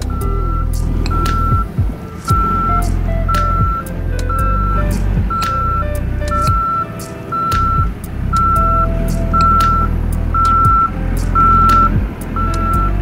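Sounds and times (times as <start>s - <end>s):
diesel engine running: 0.0s - 13.0s
reversing alarm beeping: 0.0s - 13.0s.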